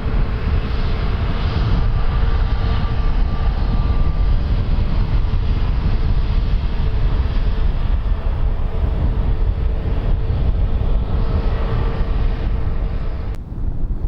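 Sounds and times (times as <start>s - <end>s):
airliner engines rumbling: 0.0s - 14.0s
faint engine whine: 0.0s - 14.0s.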